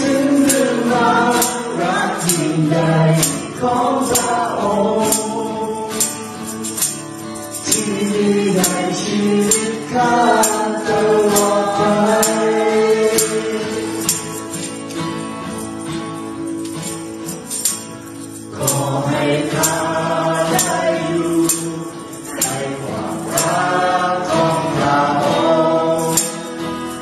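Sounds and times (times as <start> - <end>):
several voices singing: 0.0 - 14.7, 18.4 - 27.0
strummed acoustic guitars: 0.0 - 27.0
tambourine struck on the beat: 0.0 - 27.0.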